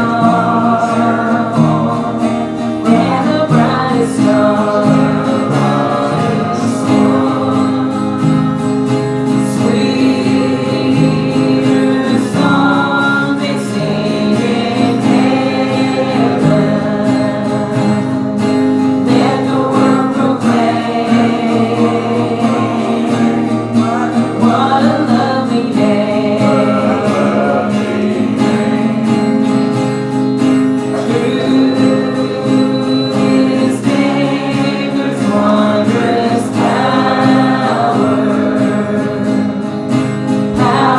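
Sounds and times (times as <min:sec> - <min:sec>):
acoustic guitar strumming: 0:00.0 - 0:40.9
congregation singing a hymn: 0:00.0 - 0:40.9.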